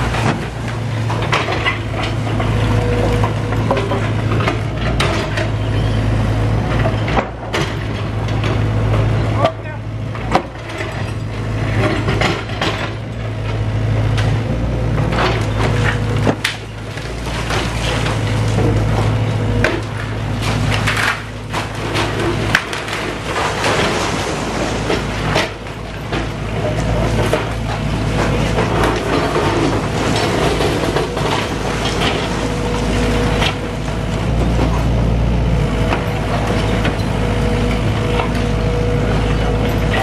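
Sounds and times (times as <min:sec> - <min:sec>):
timber and rubble clattering: 0:00.0 - 0:05.6, 0:06.6 - 0:13.6, 0:14.2 - 0:40.0
diesel excavator engine running: 0:00.0 - 0:40.0.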